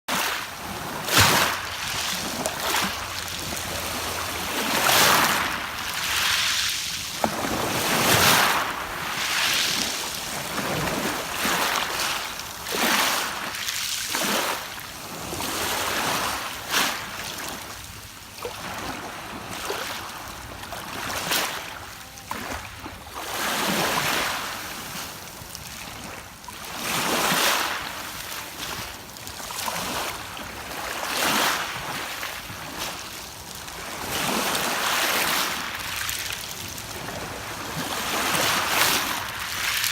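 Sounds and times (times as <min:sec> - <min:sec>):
waves washing over pebble beach: 0:00.1 - 0:17.9, 0:18.5 - 0:39.9.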